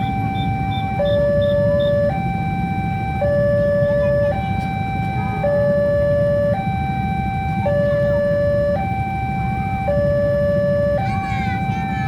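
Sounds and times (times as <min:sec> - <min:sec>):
two-tone electronic alarm: 0:00.0 - 0:12.0.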